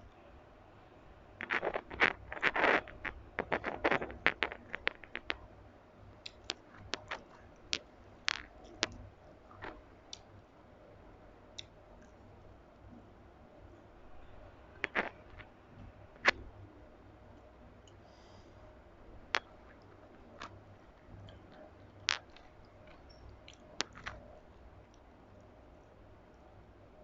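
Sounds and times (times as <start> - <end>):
eating clicks scrapes and crunches: 1.4 - 10.5, 11.5 - 13.0, 13.8 - 18.6, 19.2 - 27.0.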